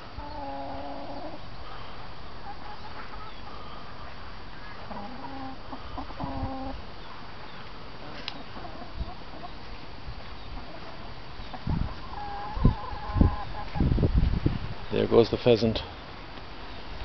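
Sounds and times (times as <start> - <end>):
hens clucking: 0.0 - 13.9
steady background hiss: 0.0 - 17.0.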